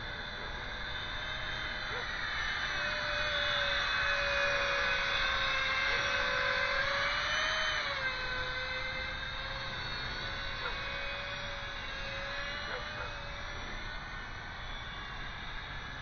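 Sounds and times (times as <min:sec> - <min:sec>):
electric fan whining: 0:00.0 - 0:16.0.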